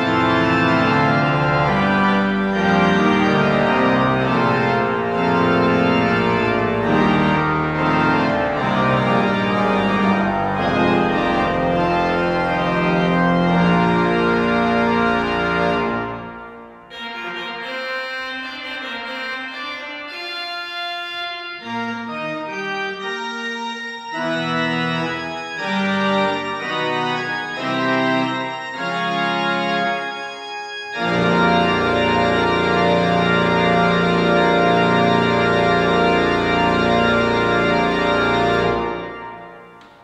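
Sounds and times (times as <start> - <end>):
church organ chords: 0.0 - 40.0.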